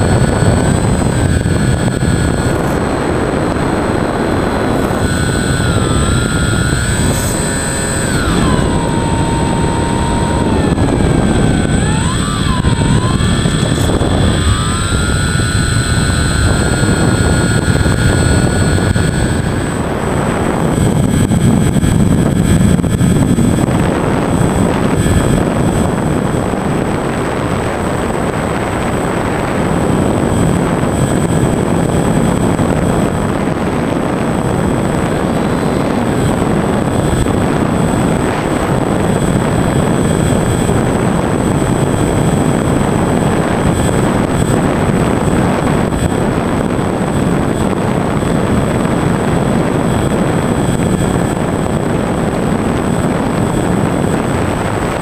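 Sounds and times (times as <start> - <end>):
electric motor and propeller whining: 0.0 - 55.0
wind rush: 0.0 - 55.0.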